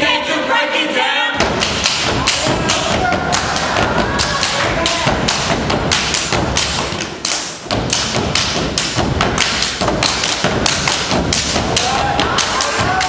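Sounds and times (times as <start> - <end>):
people clapping: 1.4 - 13.0
rhythmic stomps on stage floor: 1.4 - 13.0.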